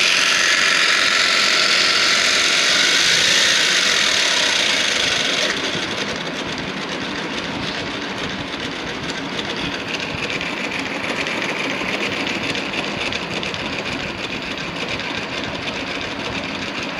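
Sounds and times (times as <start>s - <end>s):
fast gear clatter: 0.0s - 16.9s
motor whirring: 0.0s - 16.9s.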